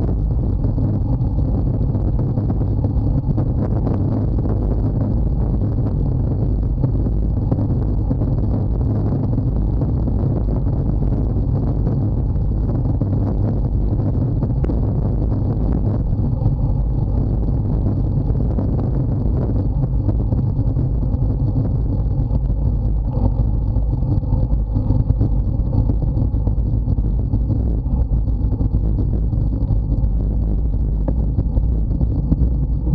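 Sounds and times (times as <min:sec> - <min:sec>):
bicycle tyres on asphalt: 0:00.0 - 0:32.9
wind buffeting microphone: 0:00.0 - 0:32.9.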